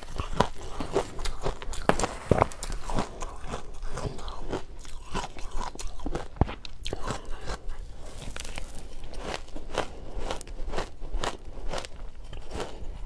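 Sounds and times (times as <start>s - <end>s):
crunching and chewing ice: 0.0s - 13.0s.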